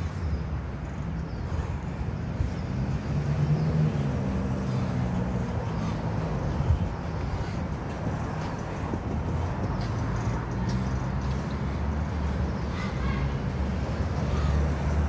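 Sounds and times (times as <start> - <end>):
city traffic rumble: 0.0 - 15.0
vehicle engine hum: 0.0 - 15.0.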